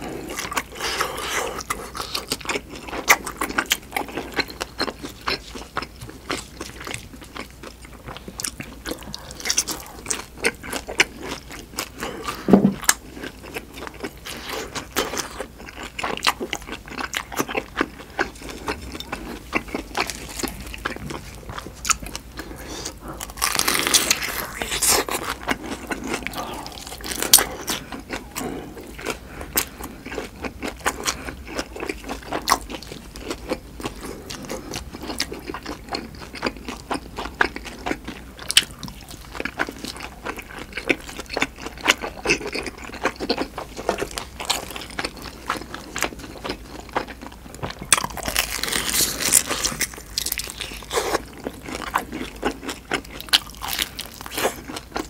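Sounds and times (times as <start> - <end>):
chewing crunchy dumplings: 0.0 - 55.0.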